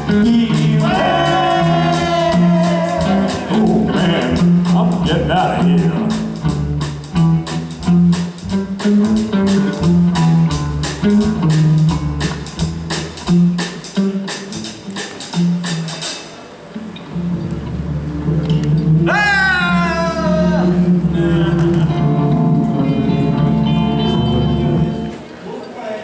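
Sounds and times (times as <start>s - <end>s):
swing band playing: 0.0s - 25.3s.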